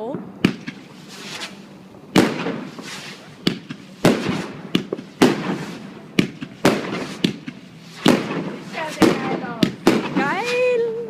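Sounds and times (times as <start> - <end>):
fireworks bangs with crackle: 0.0 - 11.0.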